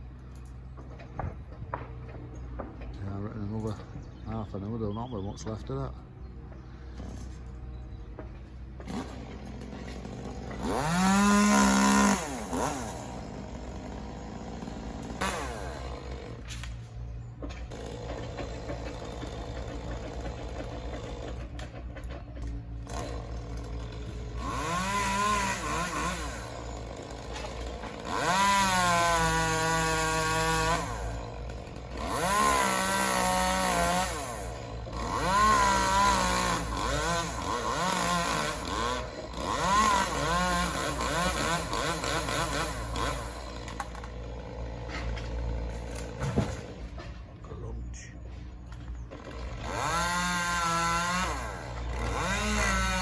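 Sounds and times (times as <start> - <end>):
chainsaw revving: 8.2 - 47.4, 48.3 - 53.0.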